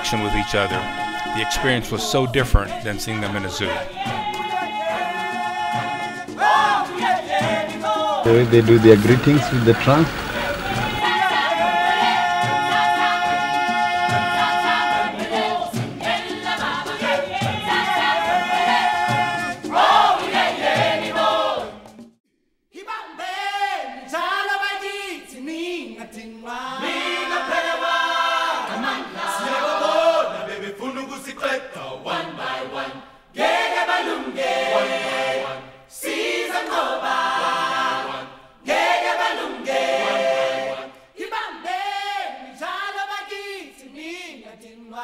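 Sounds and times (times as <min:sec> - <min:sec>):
choir singing unaccompanied: 0:00.0 - 0:21.9, 0:23.2 - 0:45.0.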